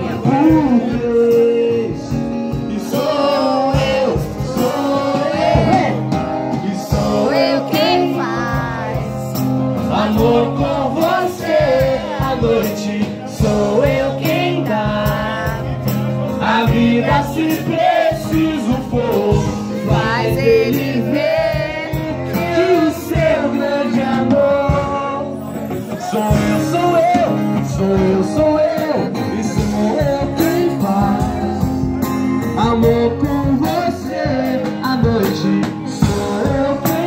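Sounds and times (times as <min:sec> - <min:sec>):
song over loudspeakers: 0:00.0 - 0:37.0.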